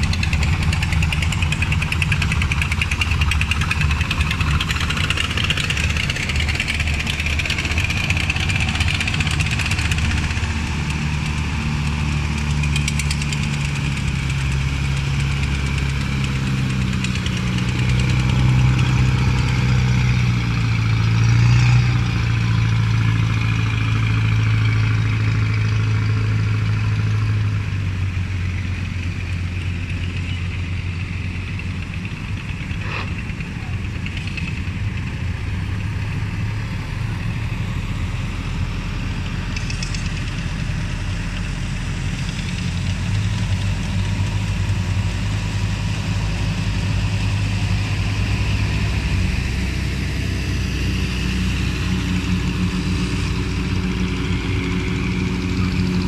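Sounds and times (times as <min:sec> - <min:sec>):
motorboat engines running: 0:00.0 - 0:56.0.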